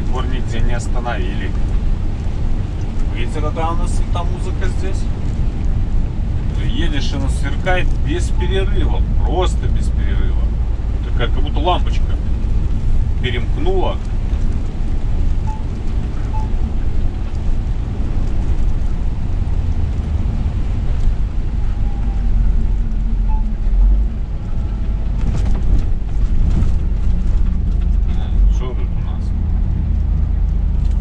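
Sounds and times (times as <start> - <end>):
rain and tyre hiss: 0.0 - 31.0
truck engine and road drone: 0.0 - 31.0.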